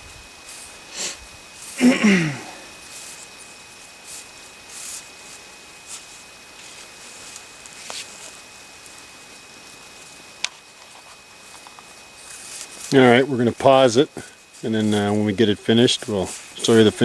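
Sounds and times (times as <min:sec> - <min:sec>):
rustling and handling noises: 0:00.2 - 0:17.0.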